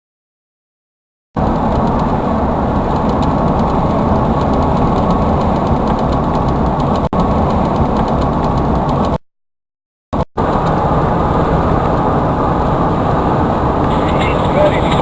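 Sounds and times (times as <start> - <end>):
road and engine rumble: 1.4 - 9.2, 10.2 - 15.0.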